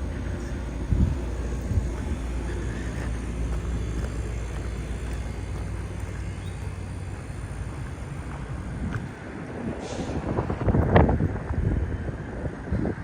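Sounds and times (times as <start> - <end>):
airplane passing overhead: 0.0 - 13.0.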